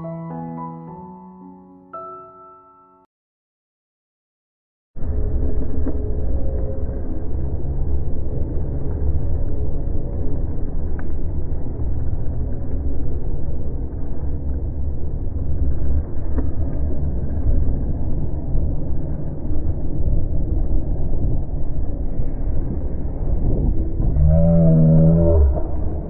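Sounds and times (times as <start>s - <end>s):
wind rumble on microphone: 5.0s - 26.0s.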